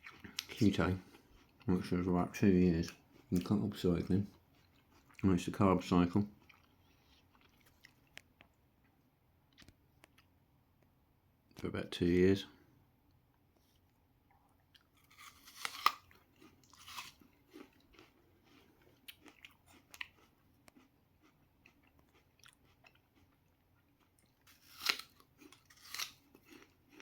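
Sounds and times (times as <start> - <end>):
person chewing food: 0.0 - 1.9, 2.6 - 5.5, 6.3 - 10.4, 13.3 - 27.0.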